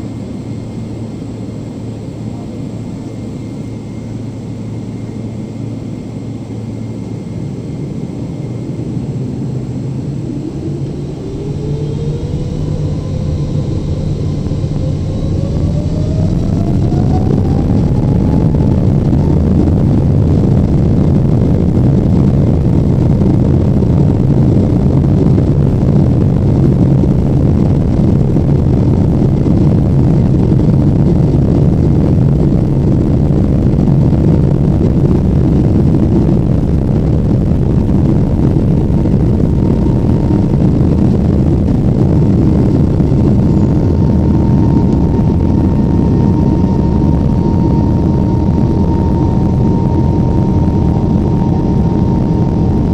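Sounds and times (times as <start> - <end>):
air rushing along fuselage: 0.0 - 52.9
faint steady whine: 0.0 - 52.9
jet engines droning: 0.0 - 52.9.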